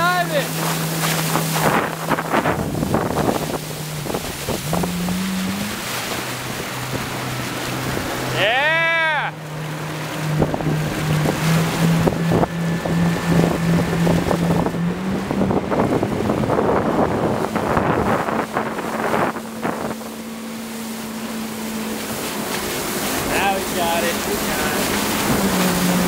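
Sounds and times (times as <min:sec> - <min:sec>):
motorboat engine humming: 0:00.0 - 0:26.0
water splashing: 0:00.0 - 0:26.0
wind buffeting microphone: 0:00.0 - 0:26.0.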